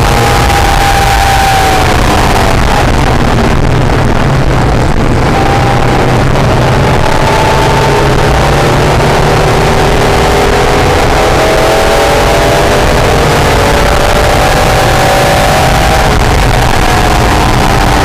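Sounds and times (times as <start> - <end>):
car engine accelerating: 0.0 - 18.0
wind and road noise: 0.0 - 18.0.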